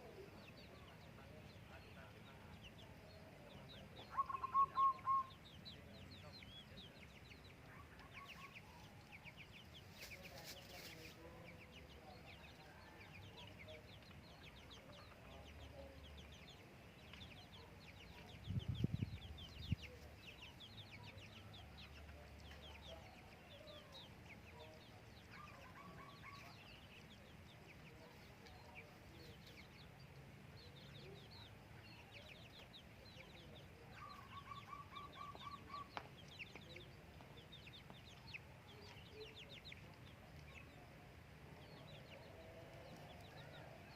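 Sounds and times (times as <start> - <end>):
chickens clucking: 0.0 - 43.9
small birds chirping: 0.0 - 43.9.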